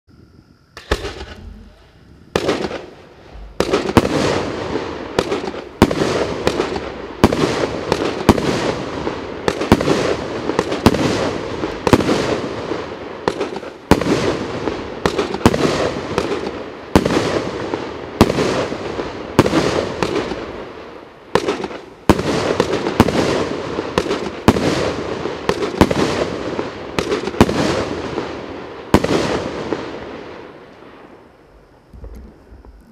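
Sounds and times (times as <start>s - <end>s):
firework bangs: 0.7s - 31.2s.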